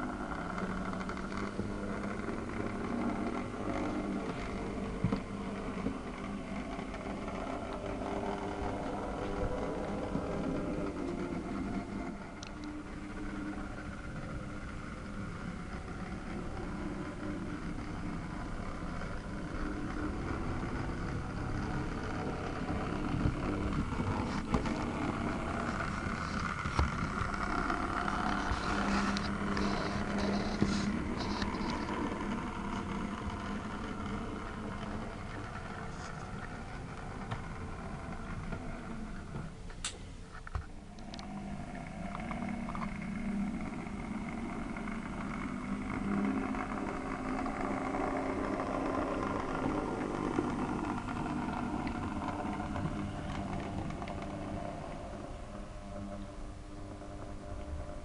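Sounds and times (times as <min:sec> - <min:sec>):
model train mechanical hum: 0:00.0 - 0:58.0.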